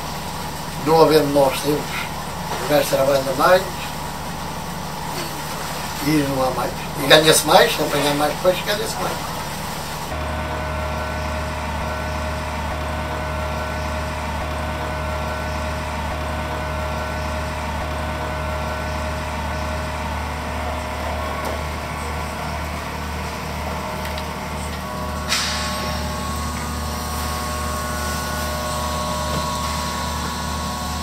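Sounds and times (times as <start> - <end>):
boat machinery droning: 0.0 - 31.0
faint steady hum: 0.0 - 31.0.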